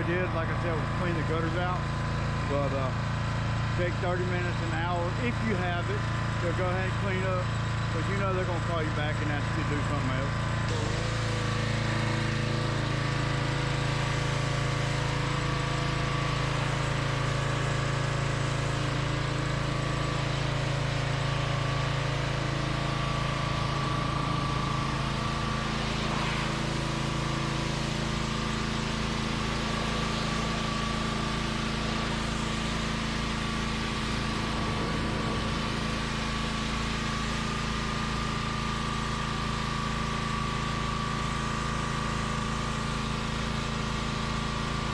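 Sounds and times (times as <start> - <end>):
pressure washer engine running: 0.0 - 44.9.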